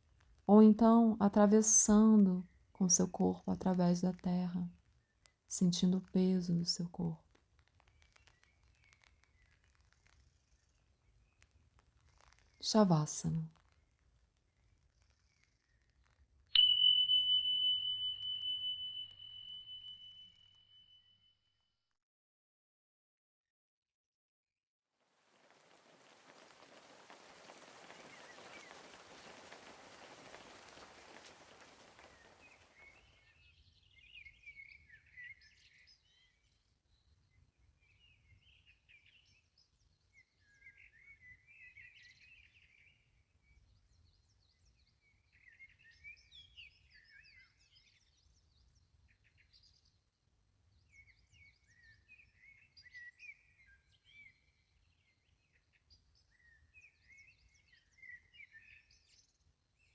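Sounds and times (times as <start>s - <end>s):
small birds chirping: 0.6s - 13.9s, 14.5s - 20.6s, 25.4s - 59.9s.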